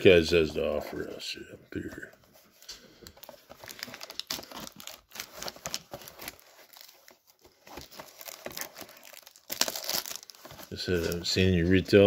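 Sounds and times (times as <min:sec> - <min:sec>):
plastic shrink wrap crinkling: 0:01.8 - 0:12.0.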